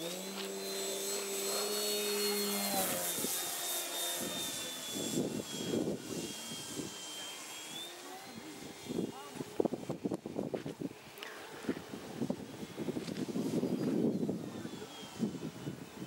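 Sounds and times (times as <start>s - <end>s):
model plane motor droning: 0.0s - 16.0s
wind buffeting microphone: 1.2s - 7.1s, 8.4s - 16.0s.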